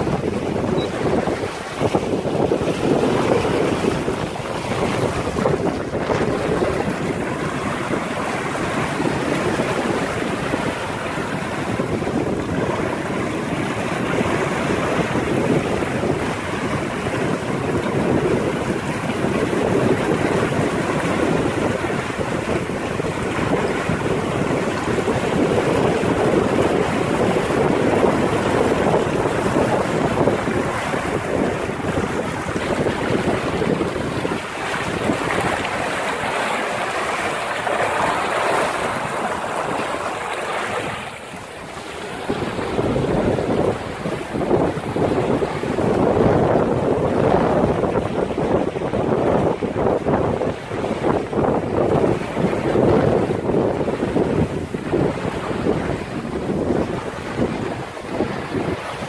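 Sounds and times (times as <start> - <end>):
water rushing past hull: 0.0 - 59.0
wind buffeting microphone: 0.0 - 59.0.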